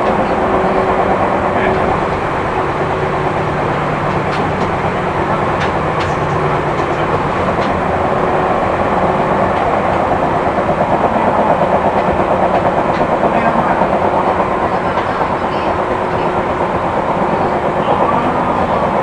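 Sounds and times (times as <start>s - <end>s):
fast regular wheel pulsing beat: 0.0s - 19.0s
train wheels rumbling on rail: 0.0s - 19.0s.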